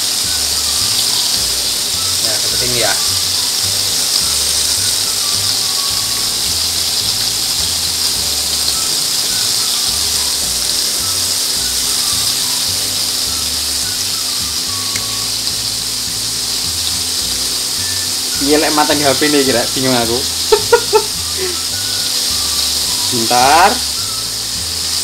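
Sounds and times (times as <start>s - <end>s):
background music with bass line: 0.0s - 25.0s
oil sizzling while deep-frying: 0.0s - 25.0s.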